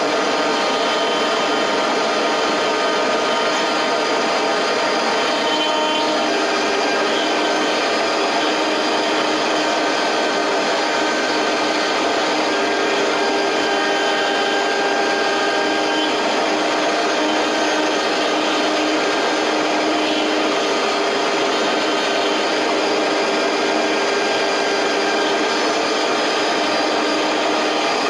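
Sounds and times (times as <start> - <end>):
constant cutting noise: 0.0 - 28.0
milling spindle whine: 0.0 - 28.0.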